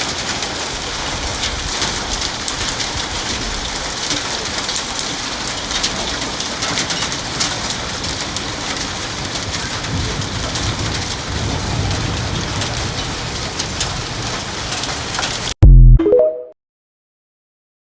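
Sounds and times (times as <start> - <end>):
heavy rain downpour: 0.0 - 15.6
hailstones ticking on hard surfaces: 0.1 - 15.3.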